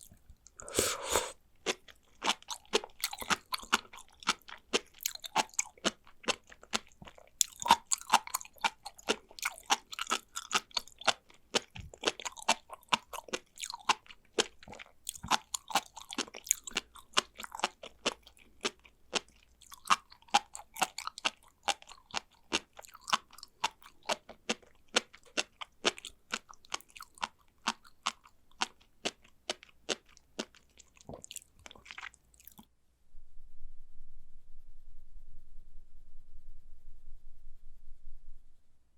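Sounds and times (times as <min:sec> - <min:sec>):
chewing with crisp pops: 0:00.0 - 0:32.7.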